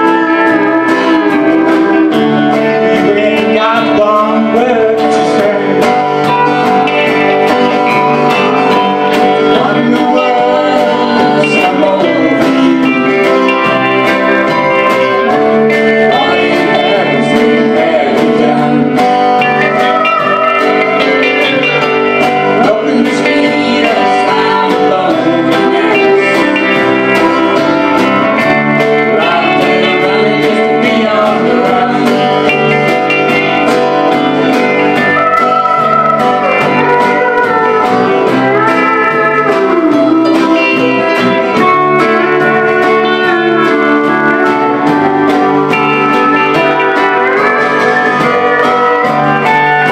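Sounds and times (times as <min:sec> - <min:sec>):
woman singing: 0:00.0 - 0:06.9, 0:08.2 - 0:13.8, 0:16.0 - 0:32.8, 0:34.1 - 0:49.9
acoustic guitar: 0:00.0 - 0:49.9
bass guitar: 0:00.0 - 0:49.9
drums: 0:00.0 - 0:49.9
pedal steel guitar gliding: 0:00.0 - 0:49.9.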